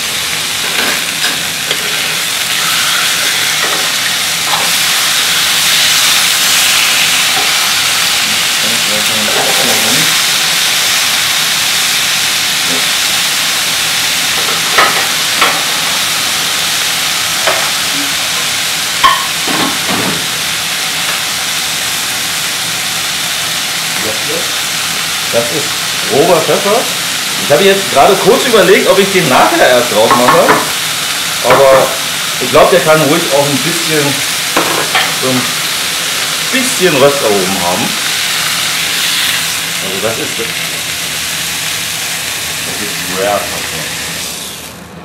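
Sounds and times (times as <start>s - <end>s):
steaks sizzling in a pan: 0.0s - 44.7s.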